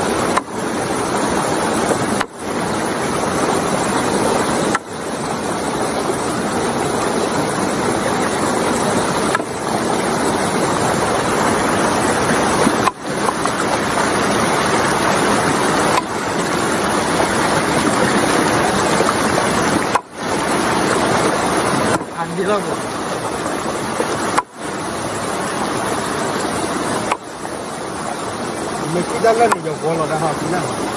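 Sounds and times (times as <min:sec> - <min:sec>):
water rushing in rocky stream: 0:00.0 - 0:30.9.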